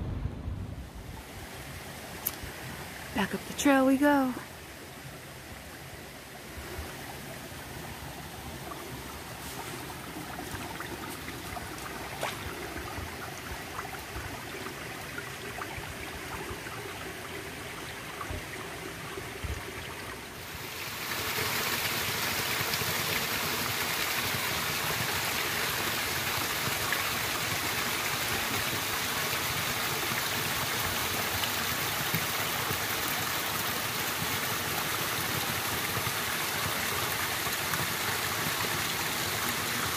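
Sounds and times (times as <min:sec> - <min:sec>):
stream splashing over rocks: 0:01.2 - 0:39.9.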